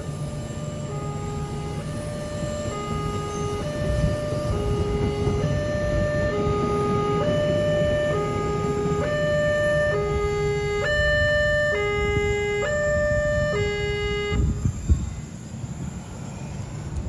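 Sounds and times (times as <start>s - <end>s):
two-tone crossing alarm: 0.0s - 15.6s
traffic rumble: 0.0s - 17.0s.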